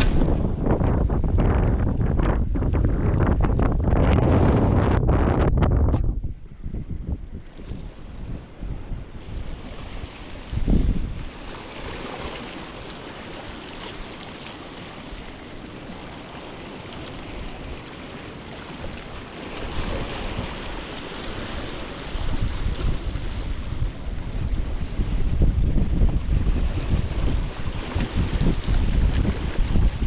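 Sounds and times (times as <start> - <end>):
sea waves washing on shore: 0.0 - 2.7, 7.4 - 30.0
wind buffeting microphone: 0.0 - 13.5, 18.6 - 30.0.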